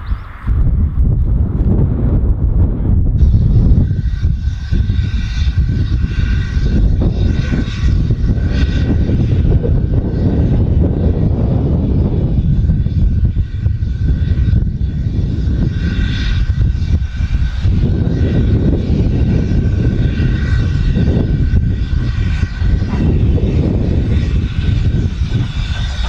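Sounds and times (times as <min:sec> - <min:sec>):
distant train rumble: 0:00.0 - 0:26.0.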